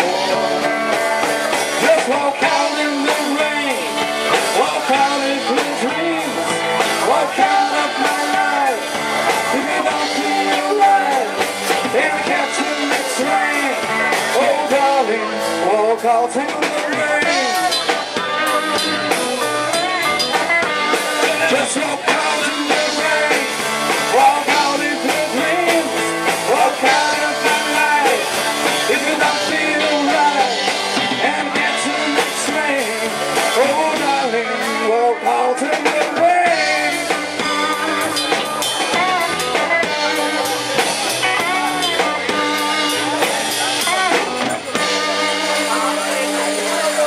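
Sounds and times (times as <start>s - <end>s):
bending lead guitar line: 0.0s - 47.0s
blues-rock band playing: 0.0s - 47.0s.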